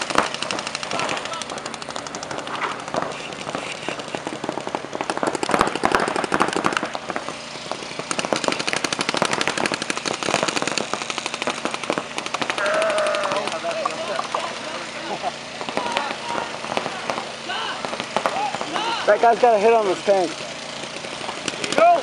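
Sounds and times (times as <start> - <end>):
paintball guns firing: 0.0 - 22.0.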